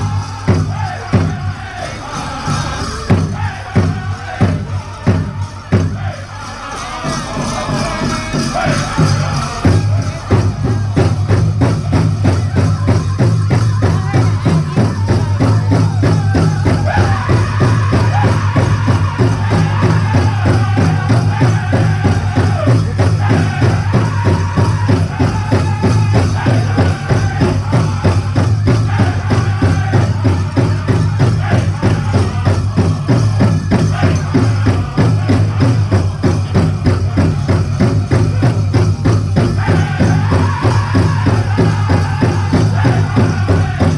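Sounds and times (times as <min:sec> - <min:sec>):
big drum beat: 0:00.0 - 0:43.9
group singing: 0:00.0 - 0:43.9.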